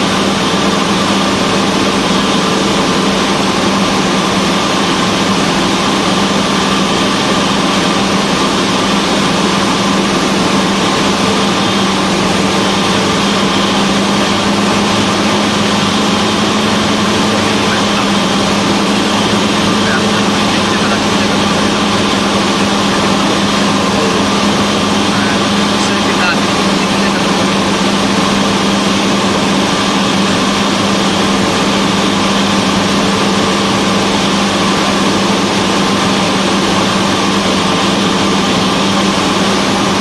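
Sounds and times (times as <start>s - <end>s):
airplane engine and propeller droning: 0.0s - 40.0s.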